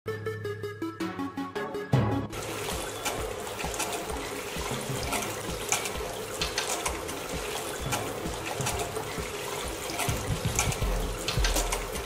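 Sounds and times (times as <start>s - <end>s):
water pouring and splashing into basin: 2.3s - 12.0s.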